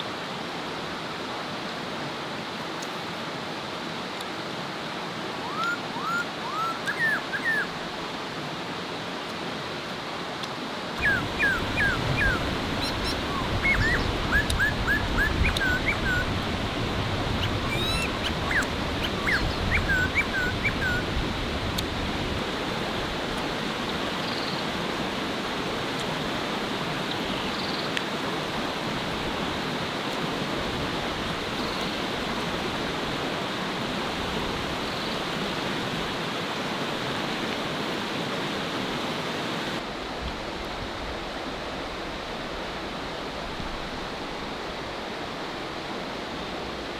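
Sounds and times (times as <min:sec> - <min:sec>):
flowing water: 0:00.0 - 0:46.9.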